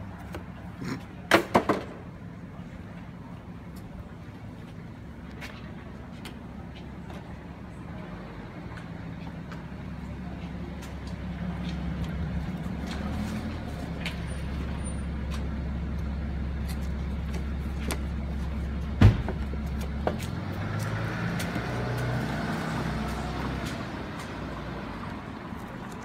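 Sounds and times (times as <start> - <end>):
vehicle engine idling: 2.1 - 26.0.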